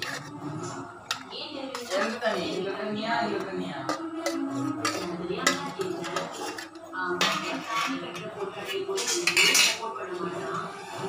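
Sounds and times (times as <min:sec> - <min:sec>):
spoon clinking on metal bowls: 0:01.0 - 0:09.9.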